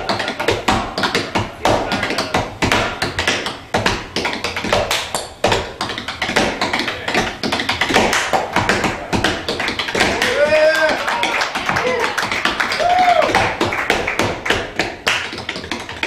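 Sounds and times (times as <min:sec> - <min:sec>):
tap shoes on tap board: 0:00.0 - 0:16.0.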